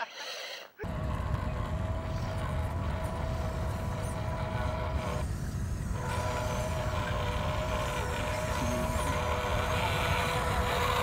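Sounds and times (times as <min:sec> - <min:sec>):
small electric motor whining: 0:00.8 - 0:11.0.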